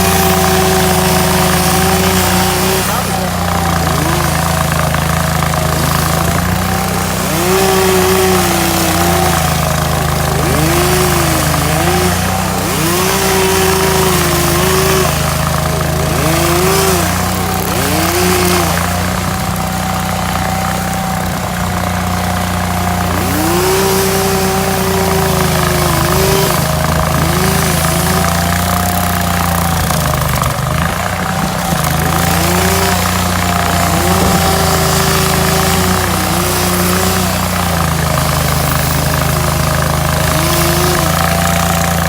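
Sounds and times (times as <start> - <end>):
grinding noise: 0.0 - 42.0
stump grinder engine whining: 0.0 - 42.0.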